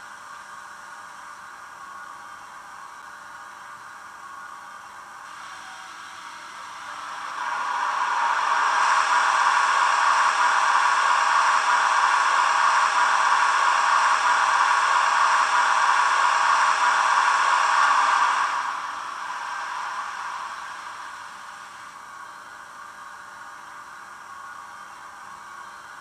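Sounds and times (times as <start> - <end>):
ventilation fan blowing hiss: 0.0 - 26.0.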